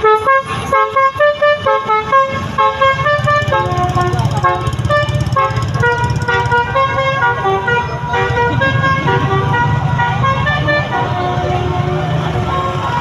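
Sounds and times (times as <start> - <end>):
bus engine rumble: 0.0 - 13.0
multi-tone horn tooting a tune: 0.0 - 13.0.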